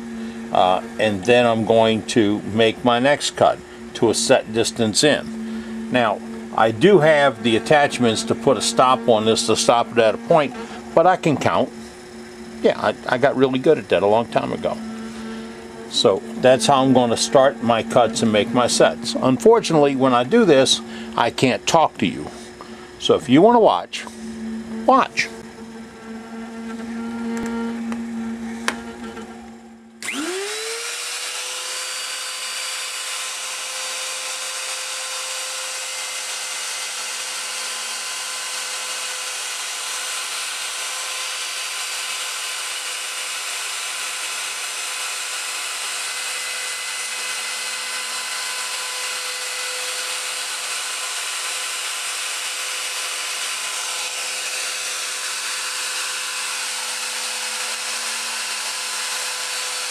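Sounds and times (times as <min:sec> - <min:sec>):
motorized cutter whining: 0:00.0 - 0:59.9.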